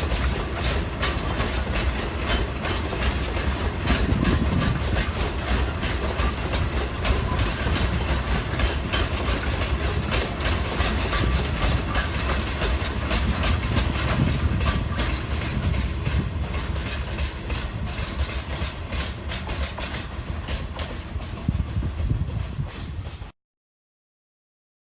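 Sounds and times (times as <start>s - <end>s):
wheel clicks over rail joints: 0.0s - 23.2s
freight train rumbling by: 0.0s - 23.3s.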